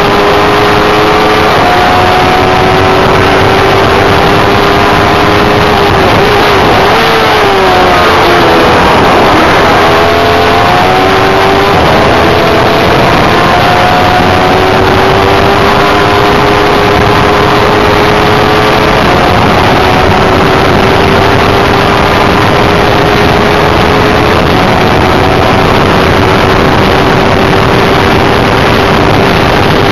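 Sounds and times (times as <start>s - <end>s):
race car engine running hard: 0.0s - 29.9s
road noise: 0.0s - 29.9s
wind noise: 0.0s - 29.9s.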